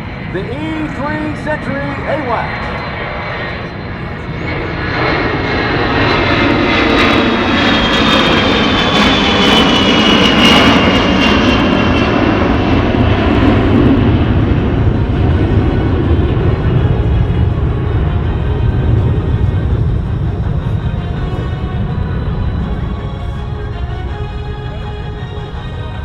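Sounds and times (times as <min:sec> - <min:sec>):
high engine whine: 0:00.0 - 0:26.0
jet engines roaring: 0:00.0 - 0:26.0.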